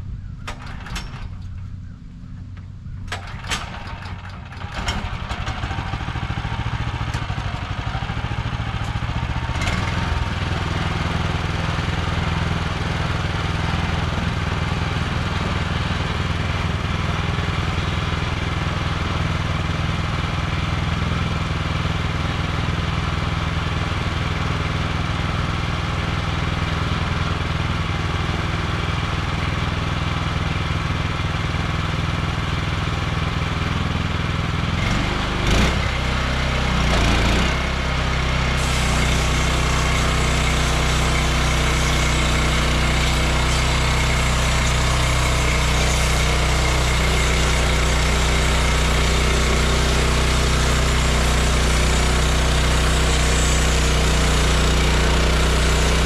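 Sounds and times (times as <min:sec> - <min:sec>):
sawmill engine running: 0:02.4 - 0:56.0.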